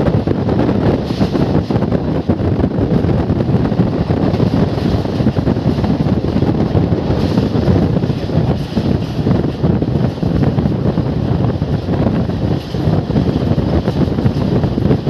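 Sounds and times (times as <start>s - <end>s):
train running on rails: 0.0s - 15.0s
wind rushing over microphone: 0.0s - 15.0s.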